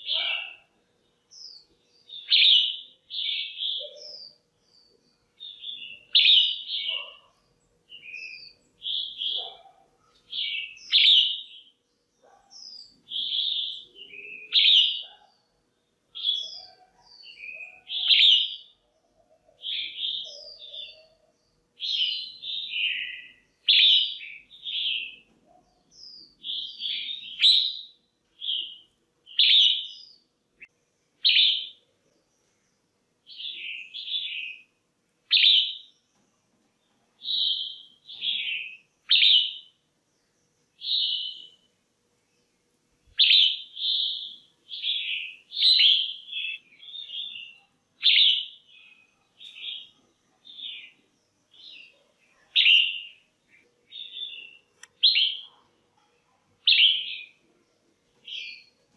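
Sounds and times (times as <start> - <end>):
bird chirping: 0.0 - 55.7, 56.6 - 58.9.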